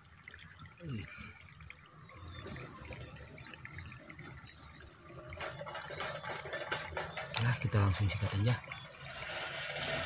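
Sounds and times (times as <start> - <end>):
crackling splashes: 0.0 - 10.0
water and mud gurgling: 0.0 - 10.0.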